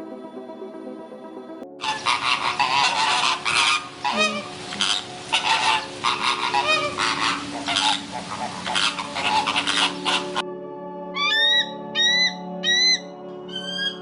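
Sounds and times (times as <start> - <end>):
flock of fowl calling: 1.8 - 10.4, 11.2 - 14.0.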